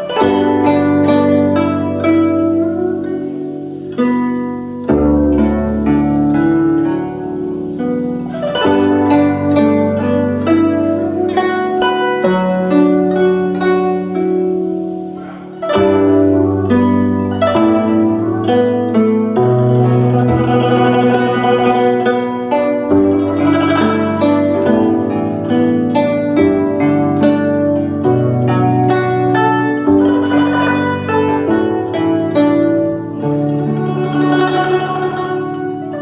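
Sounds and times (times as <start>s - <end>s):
plucked zither melody: 0.0s - 36.0s.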